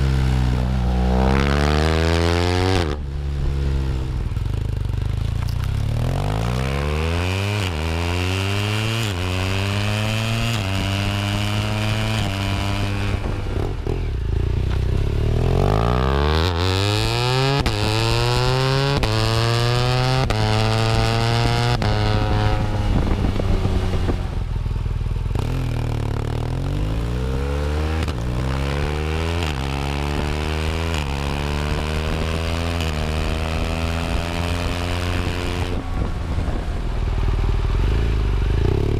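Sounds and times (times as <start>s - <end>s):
motorcycle accelerating through gears: 0.0s - 38.9s.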